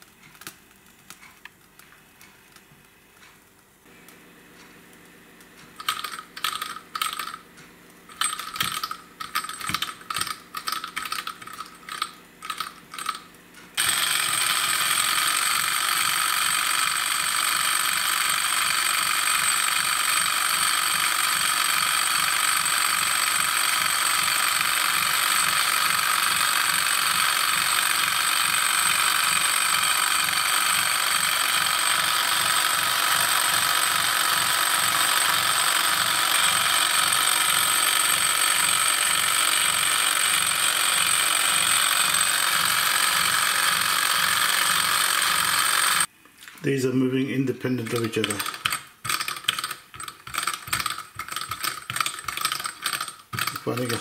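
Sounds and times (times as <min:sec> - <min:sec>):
sharp metallic clicks: 0:05.6 - 0:46.1, 0:47.6 - 0:54.0.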